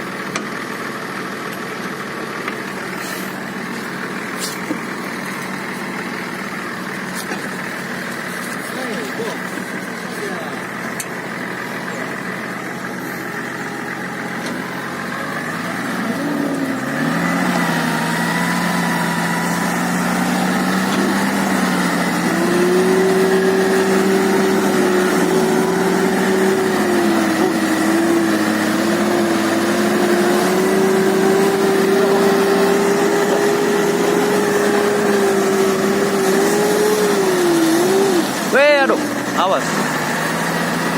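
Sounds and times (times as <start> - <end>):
off-road vehicle engine under load: 0.0 - 40.9.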